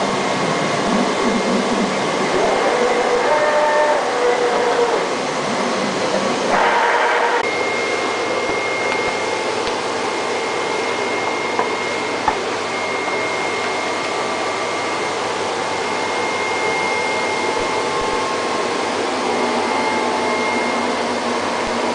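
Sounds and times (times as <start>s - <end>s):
mechanical whir: 0.0s - 21.9s
vacuum blower whoosh and whine: 0.0s - 21.9s.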